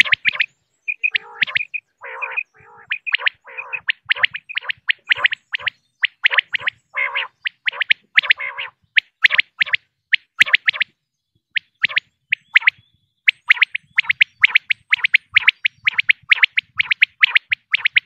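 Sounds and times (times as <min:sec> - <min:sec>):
quail calling: 0:00.0 - 0:09.8, 0:12.6 - 0:18.0.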